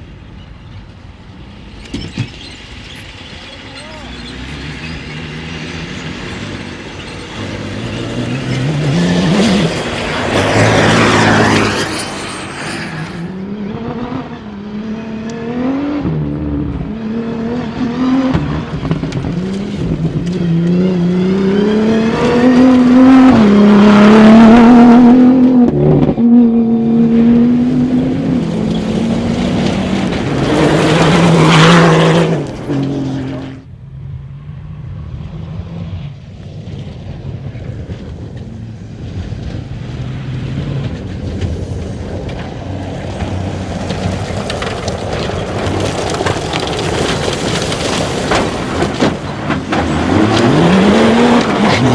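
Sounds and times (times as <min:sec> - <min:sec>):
race car engines accelerating: 0:01.1 - 0:51.9
race car passing by: 0:03.5 - 0:51.9.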